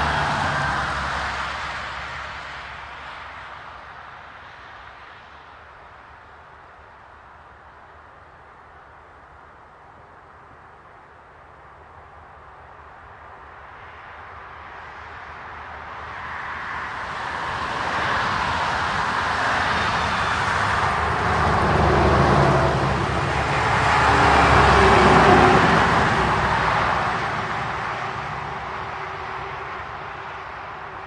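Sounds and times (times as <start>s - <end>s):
cars passing on asphalt: 0.0s - 31.0s.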